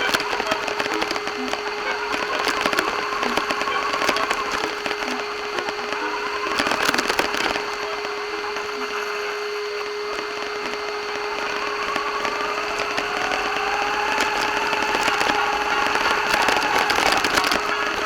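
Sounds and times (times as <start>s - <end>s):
electric motor whining: 0.0s - 18.0s
steady hum: 0.0s - 18.0s.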